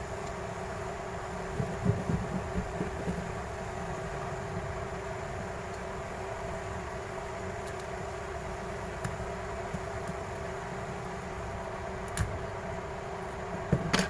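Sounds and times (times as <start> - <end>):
fan or motor humming: 0.0 - 14.0.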